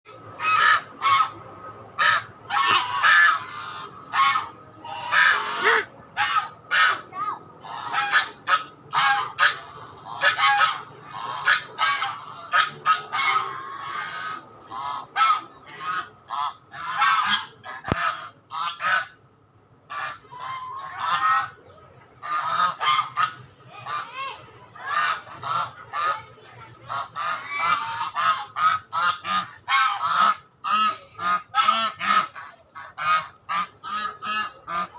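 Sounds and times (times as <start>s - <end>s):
swans calling nasally: 0.1s - 19.2s, 19.8s - 34.9s.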